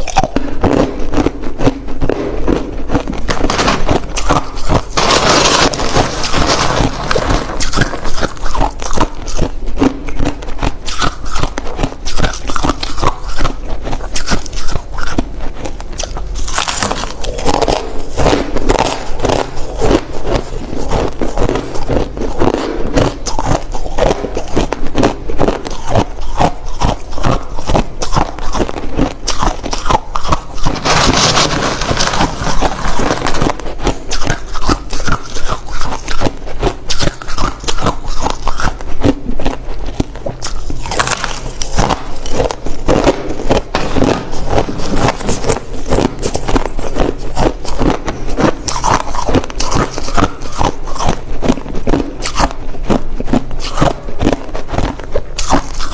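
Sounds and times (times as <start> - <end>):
crushed ice being chewed: 0.0 - 55.9.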